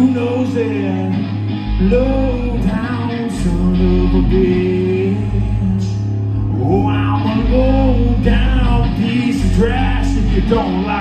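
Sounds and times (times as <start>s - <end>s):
country-rock band playing: 0.0s - 11.0s
man singing: 0.0s - 11.0s.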